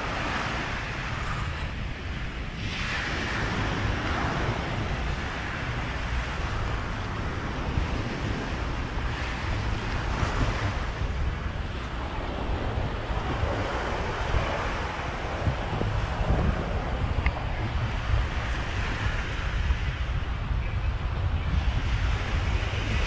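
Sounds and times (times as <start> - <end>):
surf washing onto beach: 0.0 - 20.2
wind buffeting microphone: 0.0 - 23.0.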